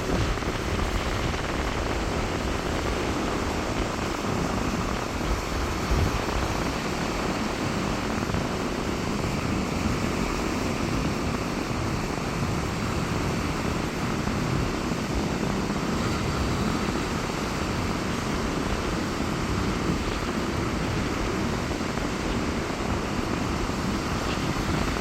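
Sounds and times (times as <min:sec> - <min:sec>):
waves breaking on beach: 0:00.0 - 0:25.0
wind rumble on microphone: 0:00.0 - 0:25.0.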